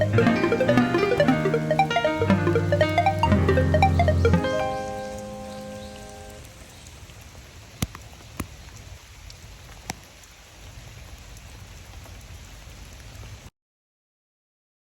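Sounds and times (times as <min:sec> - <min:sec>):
steady rain: 0:00.0 - 0:13.5.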